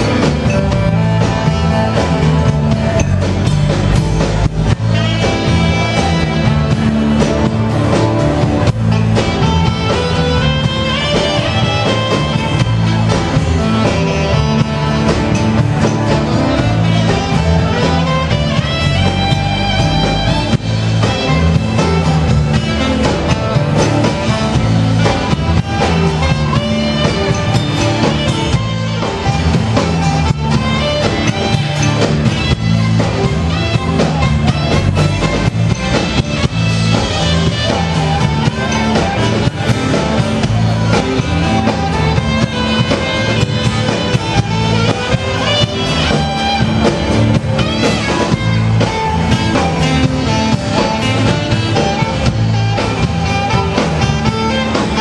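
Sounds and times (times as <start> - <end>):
bass guitar: 0.0 - 55.0
drum kit: 0.0 - 55.0
electric guitar: 0.0 - 55.0
saxophone: 0.0 - 55.0.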